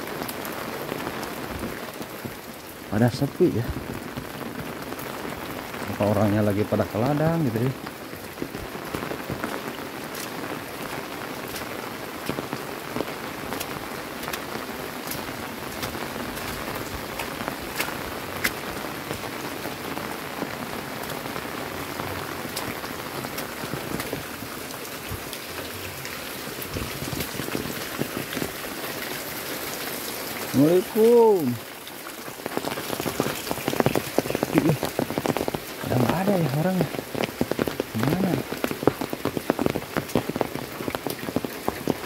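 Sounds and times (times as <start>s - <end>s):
raindrops ticking on surfaces: 0.0s - 42.0s
steady rain hiss: 0.0s - 42.0s.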